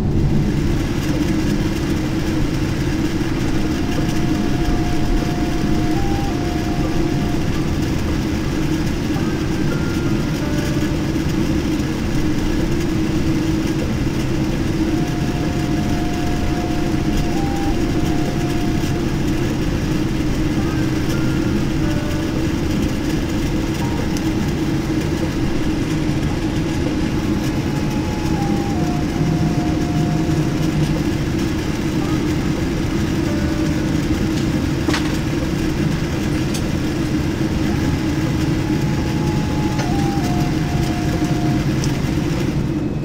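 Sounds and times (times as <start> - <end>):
aircraft cabin rumble: 0.0 - 43.0.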